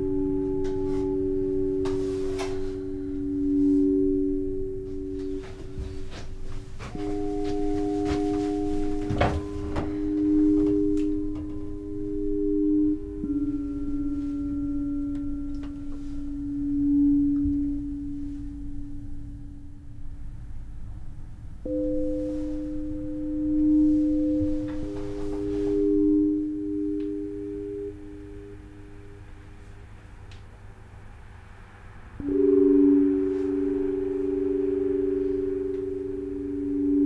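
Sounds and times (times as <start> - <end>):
slow electronic tones: 0.0 - 30.3, 30.9 - 37.0
low rumble: 0.0 - 37.0.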